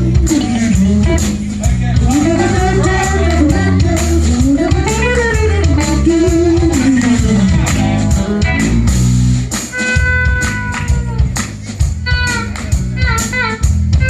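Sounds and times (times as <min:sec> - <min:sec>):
bass guitar: 0:00.0 - 0:14.0
electric guitar: 0:00.0 - 0:14.0
steady drum beat: 0:00.0 - 0:14.0.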